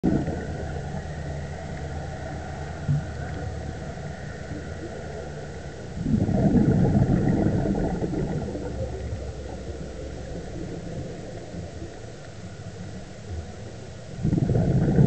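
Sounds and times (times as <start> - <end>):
muffled underwater rumbling: 0.0 - 15.0.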